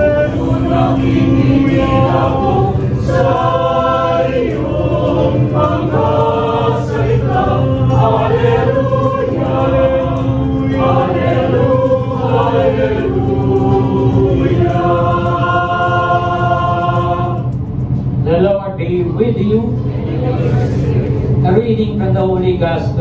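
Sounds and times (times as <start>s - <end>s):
mixed choir singing: 0.0s - 18.2s, 19.8s - 21.4s.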